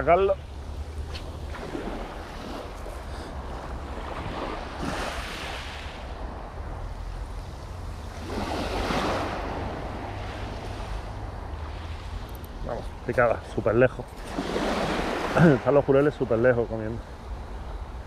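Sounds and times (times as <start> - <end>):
wind rumbling on microphone: 0.0 - 15.4
sea waves washing in: 0.0 - 18.0.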